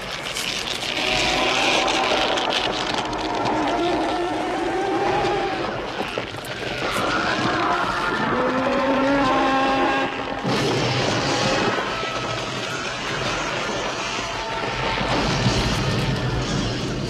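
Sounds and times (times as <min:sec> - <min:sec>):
burst of harsh noise: 0:00.0 - 0:07.8, 0:08.4 - 0:17.0
monster screech: 0:00.2 - 0:17.0.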